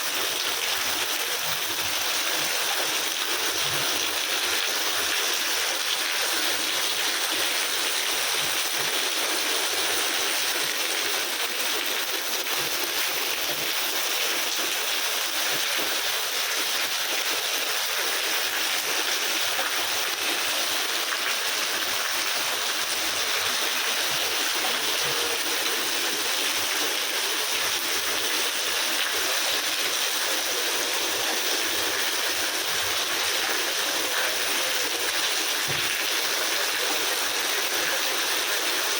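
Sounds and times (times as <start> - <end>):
rain pouring: 0.0 - 38.9.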